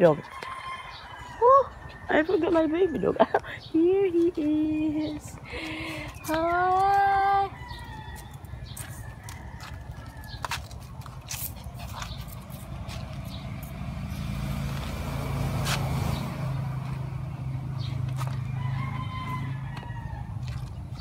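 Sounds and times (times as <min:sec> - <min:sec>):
low engine hum: 0:01.4 - 0:21.0.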